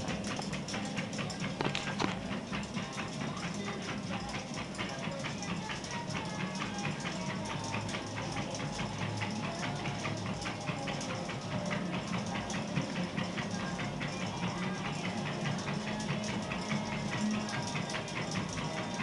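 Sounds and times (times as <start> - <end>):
dog claws ticking on belt: 0.0 - 19.0
treadmill motor hum: 0.0 - 19.0.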